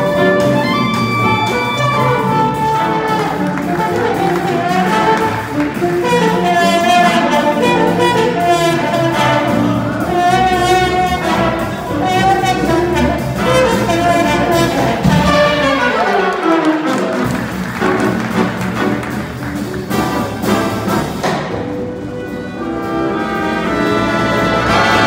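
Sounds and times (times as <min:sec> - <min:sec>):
jazz big band playing: 0:00.0 - 0:25.0.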